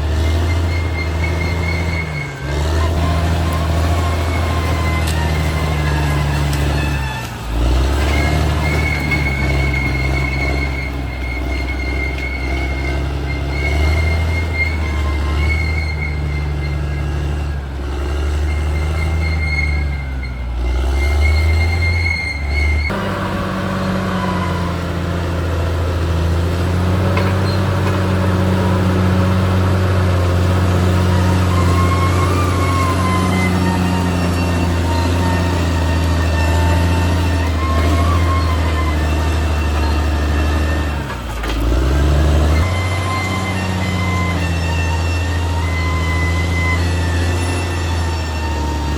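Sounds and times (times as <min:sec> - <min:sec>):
metallic squeal of running gear: 0:00.0 - 0:23.0, 0:26.8 - 0:29.6, 0:30.4 - 0:48.9
bulldozer diesel engine: 0:00.0 - 0:48.9.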